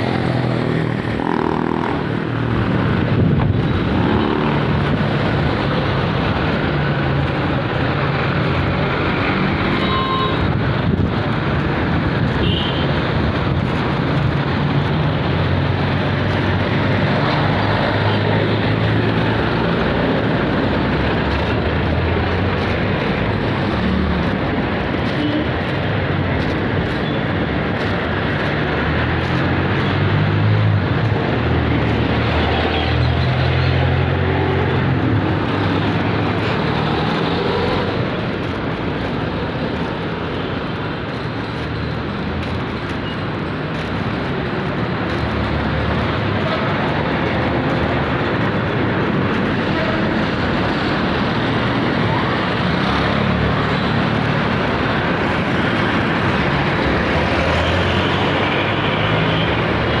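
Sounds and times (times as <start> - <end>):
street traffic: 0.0 - 60.0.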